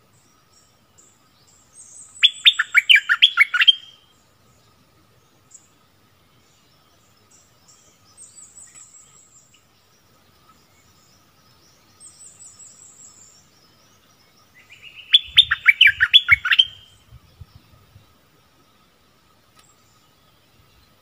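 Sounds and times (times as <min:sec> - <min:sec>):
bird singing whistled notes: 0:00.0 - 0:21.0.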